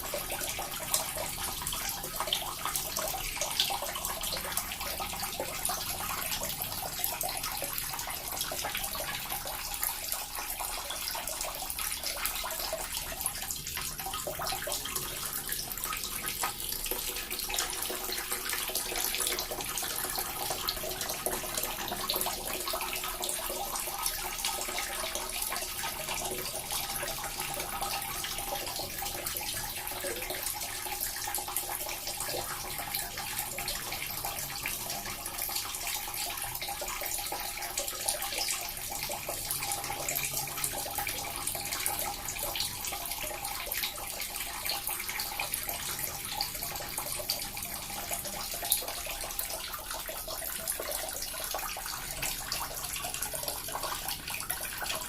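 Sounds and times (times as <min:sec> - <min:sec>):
water fountain splashing: 0:00.0 - 0:55.0.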